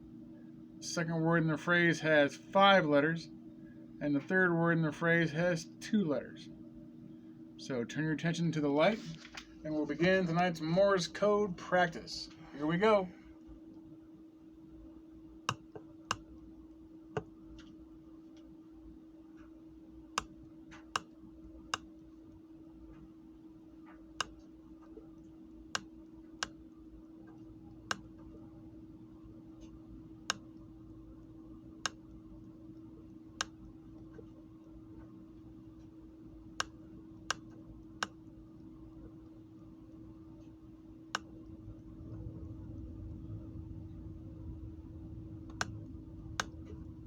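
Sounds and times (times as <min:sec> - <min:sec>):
faint low hum: 0:00.0 - 0:47.0.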